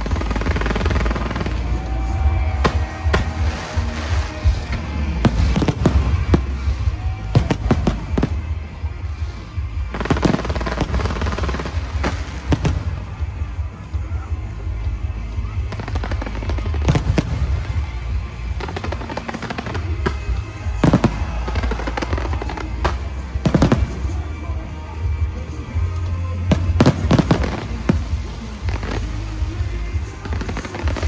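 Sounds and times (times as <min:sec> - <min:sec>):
fireworks bangs: 0:00.0 - 0:31.0
music with steady bass: 0:00.0 - 0:31.0.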